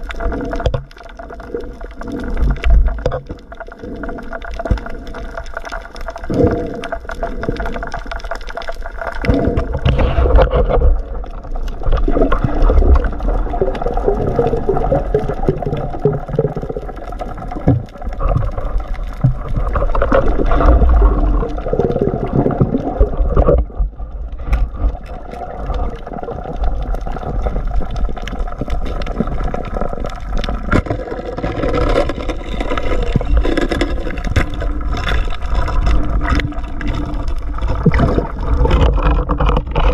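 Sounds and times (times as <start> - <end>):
continuous low underwater rumble: 0.0 - 39.9
water gurgling and sloshing: 0.0 - 39.9.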